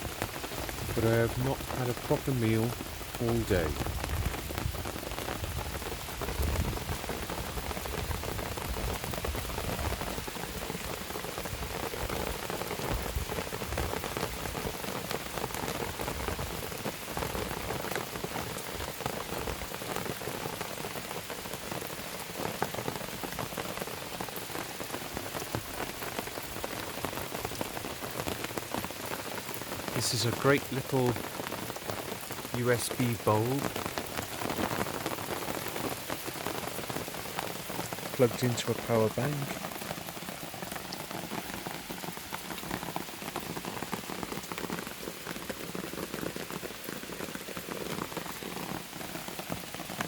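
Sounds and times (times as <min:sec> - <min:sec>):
raindrops striking a surface: 0:00.0 - 0:50.0
steady rain falling: 0:00.0 - 0:50.0.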